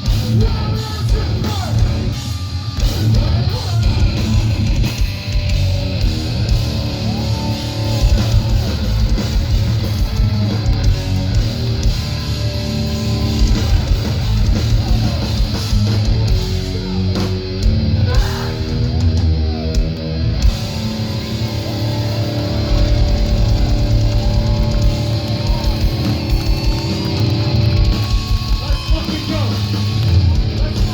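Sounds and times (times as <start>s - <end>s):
bass guitar: 0.0s - 30.9s
distorted guitars: 0.0s - 30.9s
drum kit: 0.0s - 30.9s.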